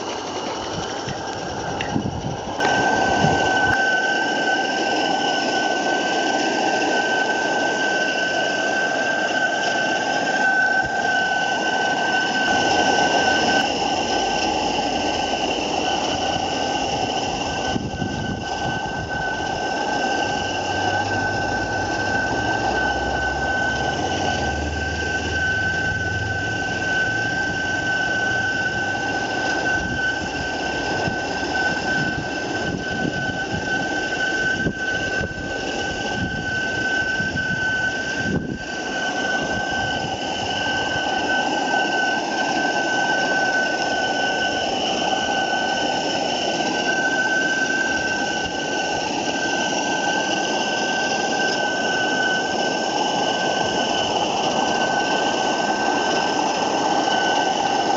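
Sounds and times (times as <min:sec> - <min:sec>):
high whistling tone: 0:00.0 - 0:57.9
steam engine hissing: 0:00.0 - 0:57.9.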